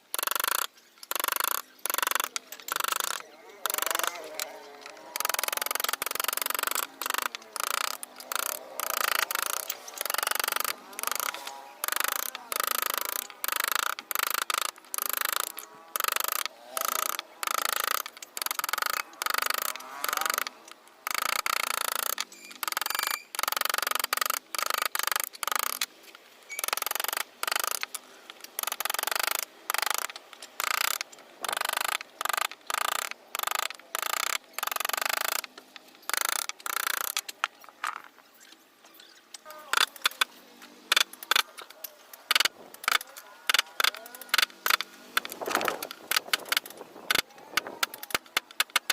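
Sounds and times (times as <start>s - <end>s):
carving tool scraping wood: 0.1s - 48.9s.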